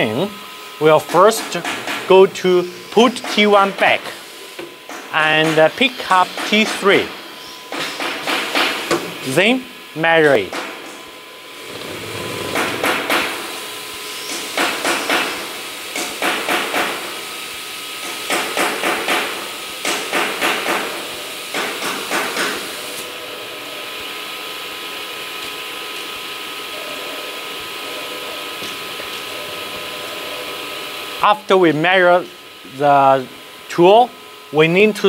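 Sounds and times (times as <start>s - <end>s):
machine hum with faint whine: 0.0s - 35.0s.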